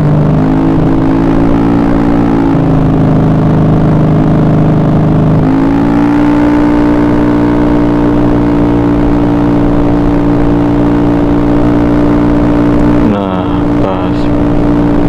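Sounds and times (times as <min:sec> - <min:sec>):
scooter engine at high revs: 0:00.0 - 0:15.0.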